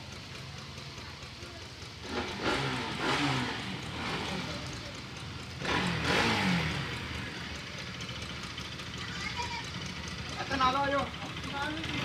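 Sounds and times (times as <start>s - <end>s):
motor vehicles passing: 0.0s - 12.0s.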